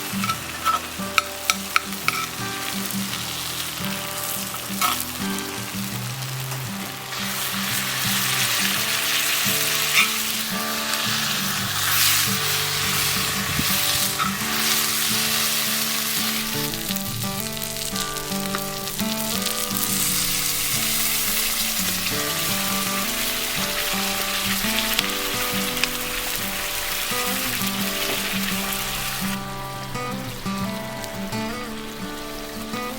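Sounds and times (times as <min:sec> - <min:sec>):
background music: 0:00.0 - 0:32.9
crackles: 0:00.0 - 0:32.9
pasta sizzling in a pan: 0:00.0 - 0:32.9.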